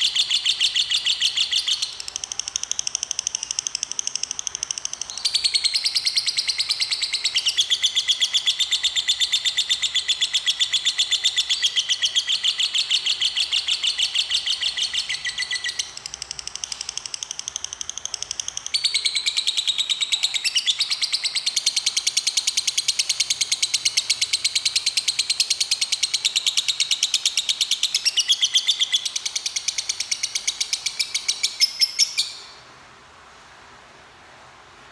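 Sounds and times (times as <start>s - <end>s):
lovebird fast shrill chirping: 0.0s - 32.5s.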